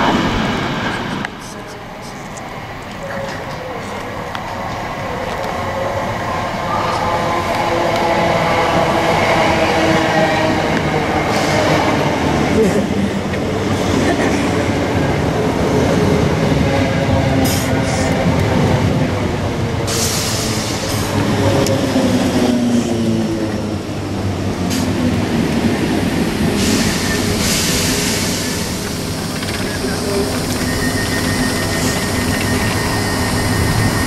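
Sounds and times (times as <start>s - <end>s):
train motor humming whine: 0.0s - 12.0s, 17.0s - 34.0s
train wheels rumbling on rails: 0.0s - 34.0s.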